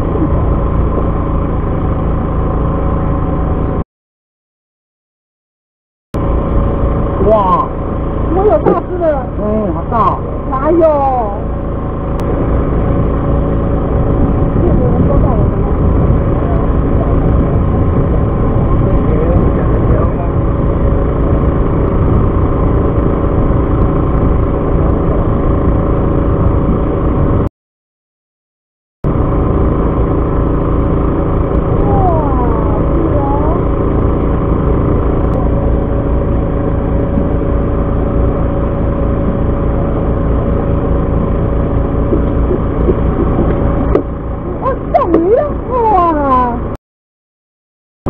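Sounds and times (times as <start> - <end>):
boat engine droning: 0.0 - 3.8, 6.2 - 27.5, 29.0 - 46.8.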